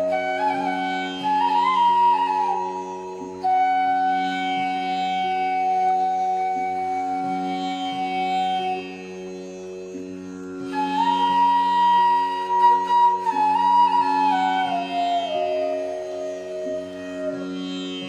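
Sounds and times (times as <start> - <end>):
flute-like melody: 0.0 - 10.0, 10.6 - 18.0.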